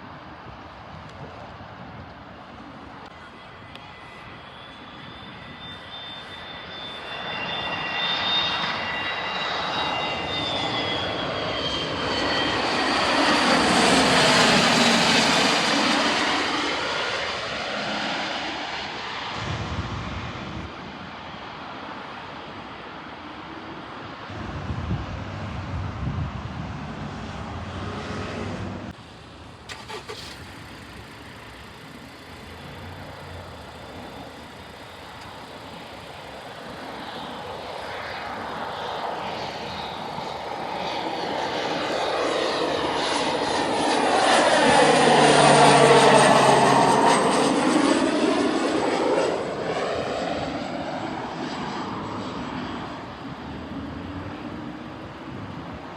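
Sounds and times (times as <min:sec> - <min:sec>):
aircraft passing: 0:00.0 - 0:55.9.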